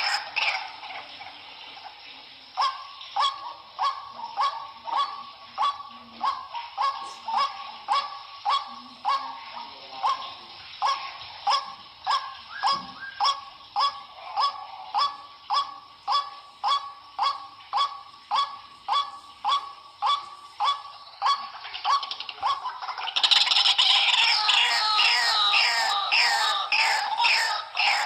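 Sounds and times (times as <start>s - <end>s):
waterhen harsh repeated call: 0.0s - 28.0s.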